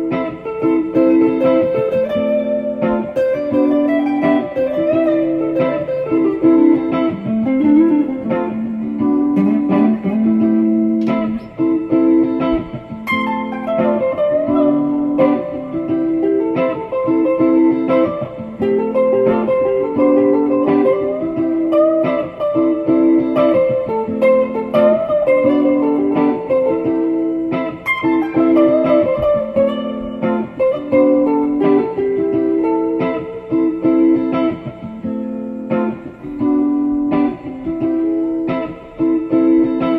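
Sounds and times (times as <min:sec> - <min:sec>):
guitar picking plucked notes: 0:00.0 - 0:39.9.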